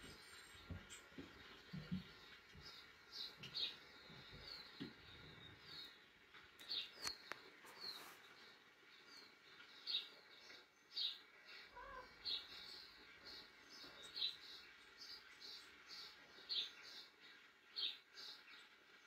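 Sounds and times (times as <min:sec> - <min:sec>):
birds chirping from speakers: 0:00.0 - 0:19.0.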